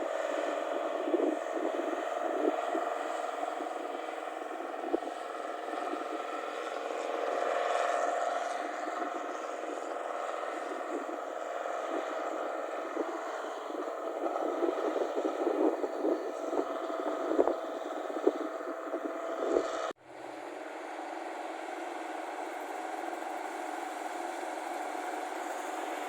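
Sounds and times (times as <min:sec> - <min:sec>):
harvester engine running hard: 0:00.0 - 0:26.0.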